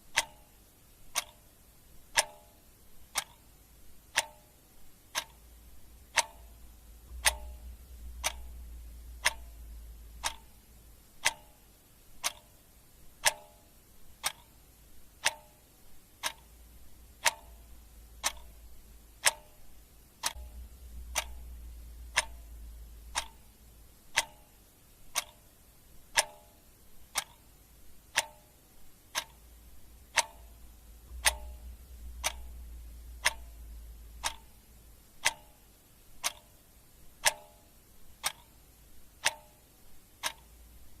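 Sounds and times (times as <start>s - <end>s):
clock ticking: 0.0s - 41.0s
faint low hum: 0.0s - 41.0s.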